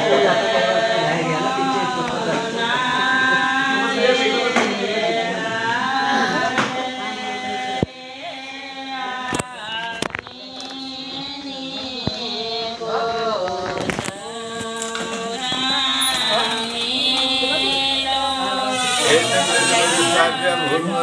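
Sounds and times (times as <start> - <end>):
voices singing slow chant: 0.0 - 21.0.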